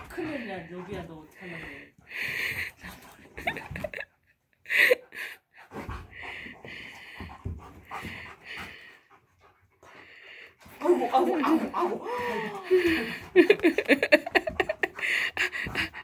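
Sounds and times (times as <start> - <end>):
puppies huffing and panting: 0.0 - 4.0, 4.7 - 16.0.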